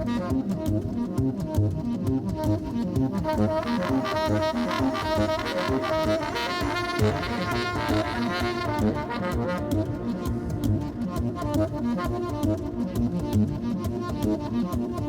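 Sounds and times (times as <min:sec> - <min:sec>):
instrumental dance music: 0:00.0 - 0:15.0.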